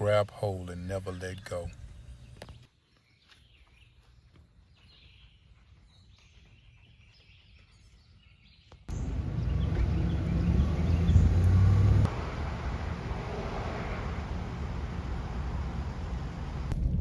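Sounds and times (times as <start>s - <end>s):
quiet outdoor ambience: 0.0s - 7.7s, 8.9s - 16.8s.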